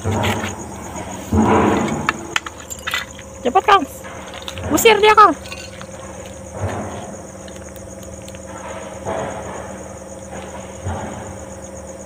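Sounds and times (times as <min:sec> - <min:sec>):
crickets chirping: 0:00.0 - 0:12.0
low hum: 0:00.0 - 0:12.0.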